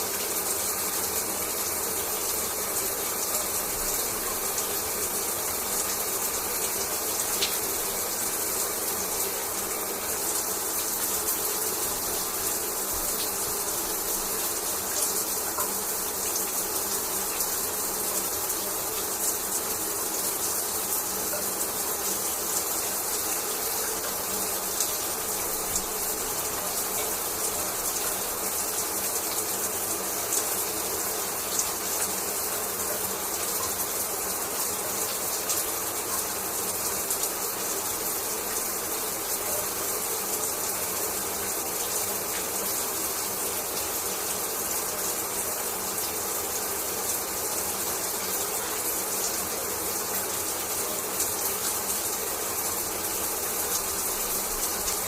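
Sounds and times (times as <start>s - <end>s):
shower water running: 0.0s - 55.0s.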